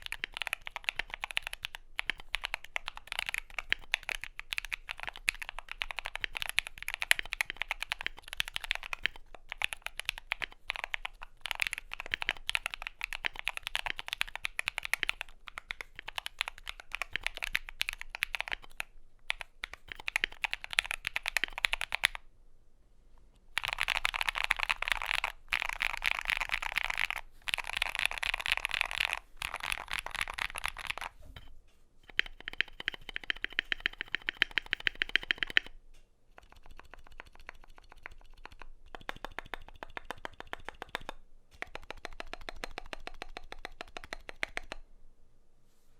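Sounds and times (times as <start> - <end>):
clicky keyboard typing: 0.0 - 22.2, 23.6 - 35.8, 36.4 - 44.8.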